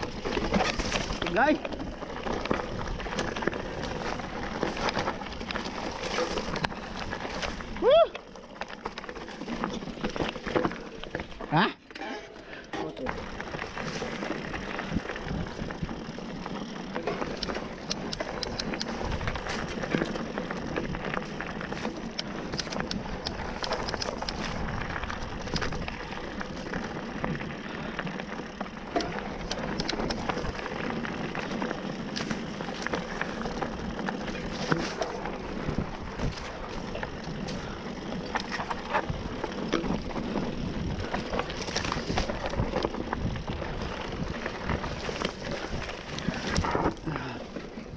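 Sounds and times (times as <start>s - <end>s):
bike clacking and rattling: 0.0s - 47.9s
bike tyres on gravel trail: 0.0s - 47.9s.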